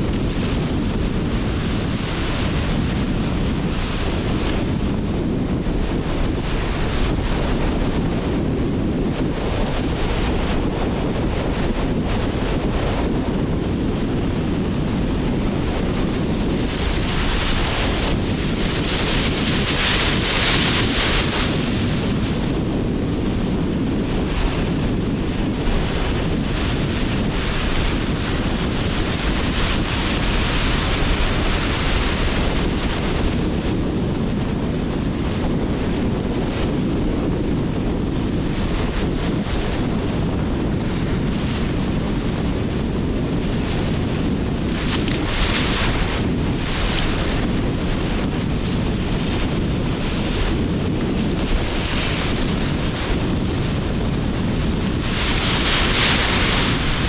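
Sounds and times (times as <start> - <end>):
gusting wind: 0.0 - 57.0
waves breaking on shore: 0.0 - 57.0
waves rumbling: 0.0 - 57.0.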